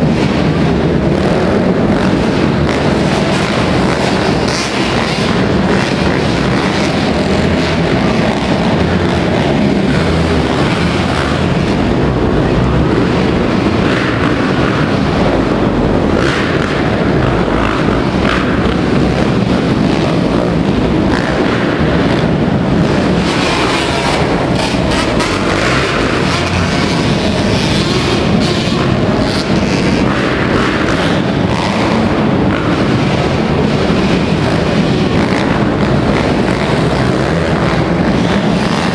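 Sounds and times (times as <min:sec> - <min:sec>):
dirt bike engines droning: 0:00.0 - 0:38.9.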